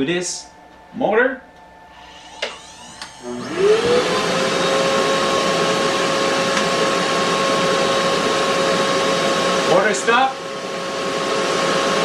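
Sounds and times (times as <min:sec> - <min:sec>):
spindle hum rising in pitch: 0:00.0 - 0:12.0
shop vacuum running: 0:01.8 - 0:12.0.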